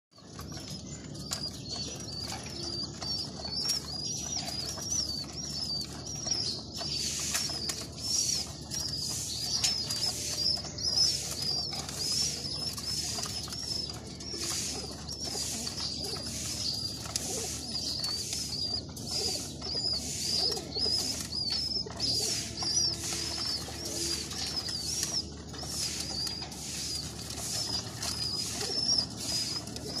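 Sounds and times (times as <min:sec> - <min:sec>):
small birds twittering: 0:00.1 - 0:30.0
pigeons cooing softly: 0:00.2 - 0:30.0.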